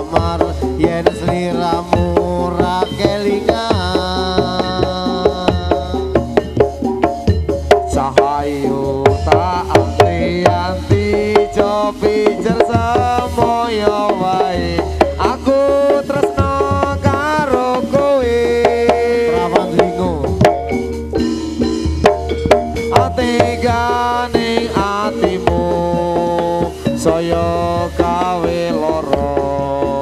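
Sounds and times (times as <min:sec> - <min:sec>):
hand drums brisk pattern: 0:00.0 - 0:30.0.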